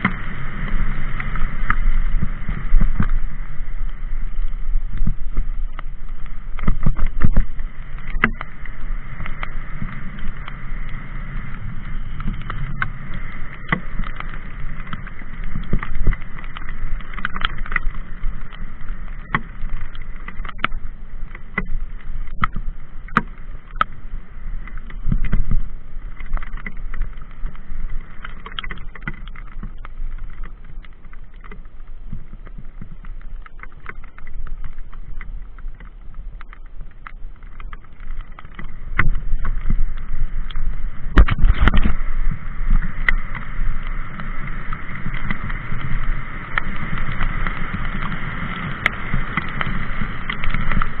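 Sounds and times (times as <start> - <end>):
mountain bike rattling on trail: 0.0 - 51.0
wind rumble on microphone: 0.0 - 51.0.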